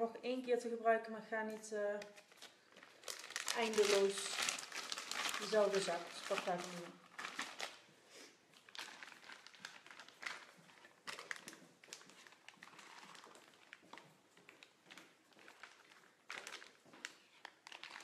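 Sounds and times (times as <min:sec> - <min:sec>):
plastic piping bag crinkling: 0:01.5 - 0:07.9, 0:08.5 - 0:18.0.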